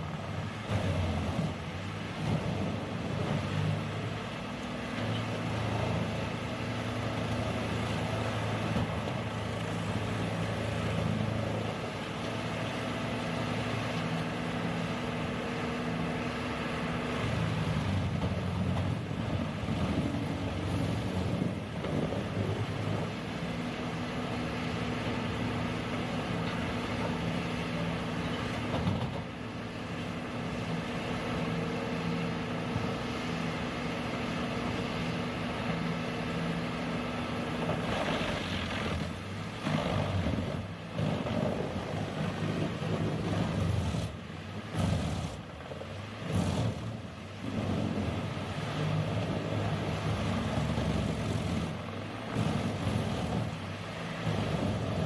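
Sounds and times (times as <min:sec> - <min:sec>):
wood-processing machine engine: 0:00.0 - 0:55.0.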